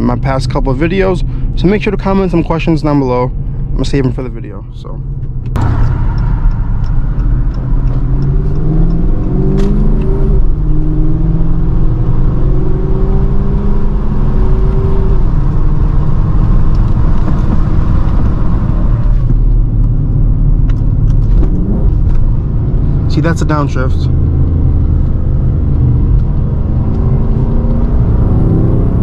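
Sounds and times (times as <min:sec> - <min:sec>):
car engine accelerating hard: 0:05.4 - 0:29.0.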